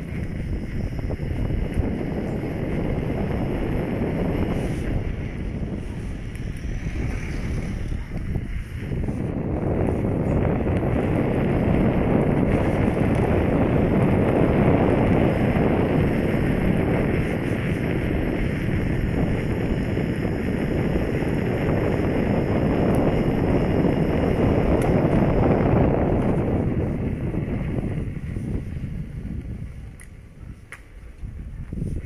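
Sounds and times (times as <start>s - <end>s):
wheel rolling noise: 0.0s - 32.0s
wind noise on microphone: 0.0s - 32.0s.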